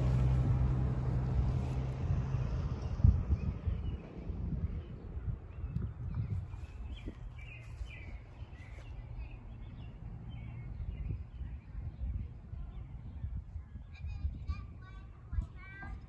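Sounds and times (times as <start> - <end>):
birds chirping: 0.0 - 14.5
wind rumble on microphone: 0.0 - 16.0.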